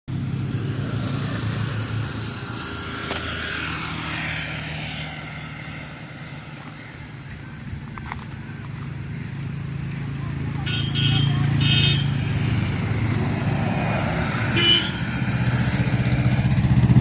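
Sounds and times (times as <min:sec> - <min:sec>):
engine droning: 0:00.1 - 0:17.0.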